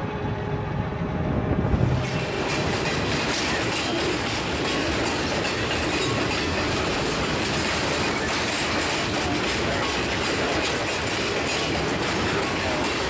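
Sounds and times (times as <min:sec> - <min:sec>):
train wheels on track: 0:00.0 - 0:13.0.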